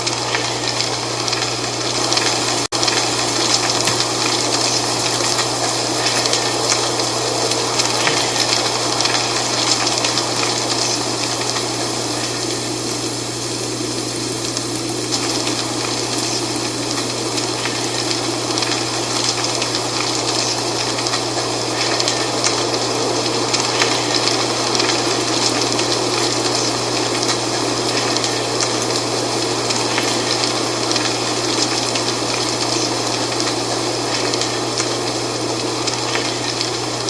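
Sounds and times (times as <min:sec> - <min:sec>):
dry leaves rustling in wind: 0:00.0 - 0:37.0.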